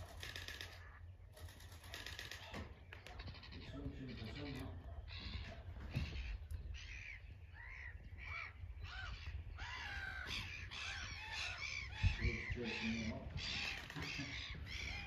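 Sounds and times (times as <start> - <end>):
birds calling harshly: 0.0 - 15.0.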